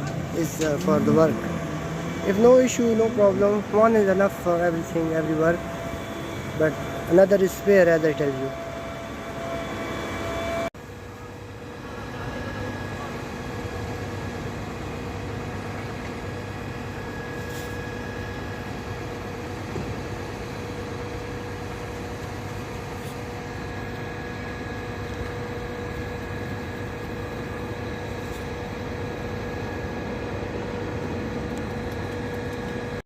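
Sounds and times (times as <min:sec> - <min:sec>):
diesel engine running: 0:00.0 - 0:33.0
steady whine: 0:00.0 - 0:33.0.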